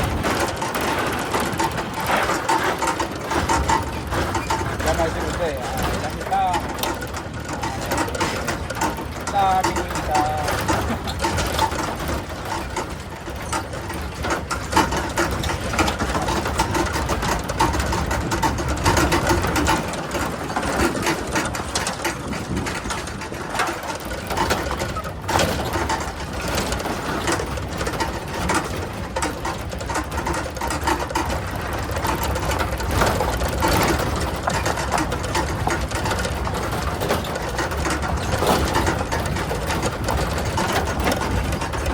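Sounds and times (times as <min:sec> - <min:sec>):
rapid mechanical ticking: 0:00.0 - 0:41.9.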